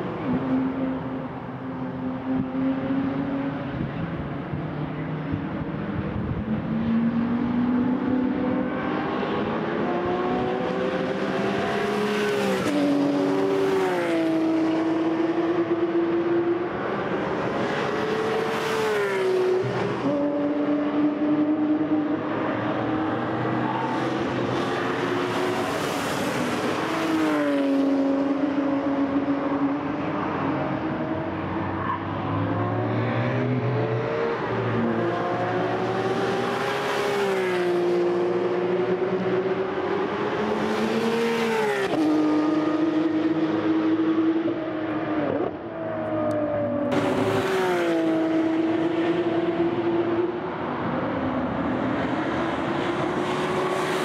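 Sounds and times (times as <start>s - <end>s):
cars passing close: 0.0s - 54.0s
sports car engines at high revs: 2.2s - 45.6s.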